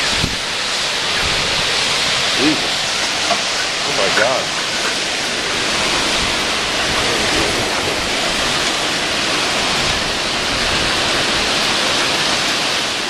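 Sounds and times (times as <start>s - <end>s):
torrential rain roaring: 0.0s - 13.0s
wind gusts on microphone: 0.0s - 13.0s.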